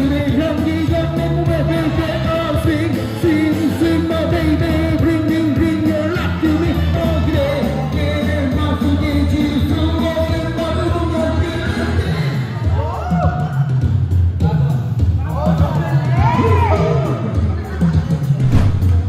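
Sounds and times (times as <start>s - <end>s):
pop music with singing: 0.0s - 19.0s
steady bass line: 0.0s - 19.0s.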